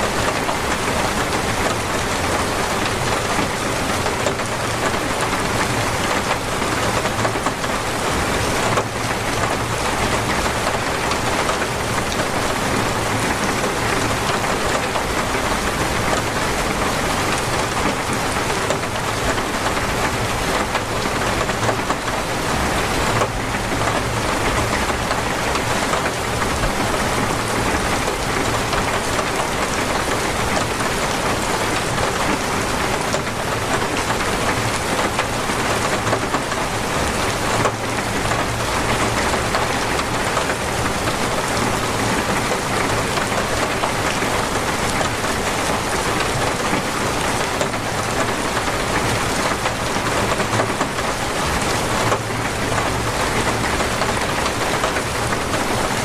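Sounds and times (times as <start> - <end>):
torrential rain pouring: 0.0 - 56.0.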